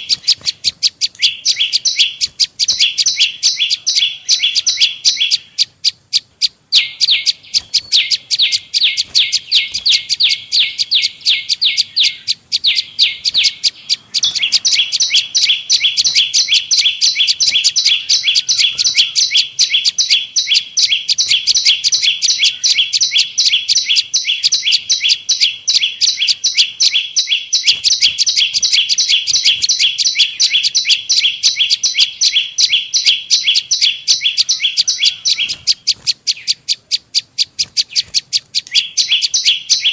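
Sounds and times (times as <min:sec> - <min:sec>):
fast sharp bird chirps: 0:00.0 - 0:39.9.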